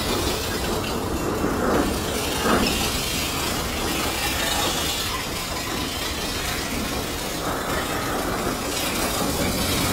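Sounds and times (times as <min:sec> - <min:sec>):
freight train wheels rattling: 0:00.0 - 0:09.9.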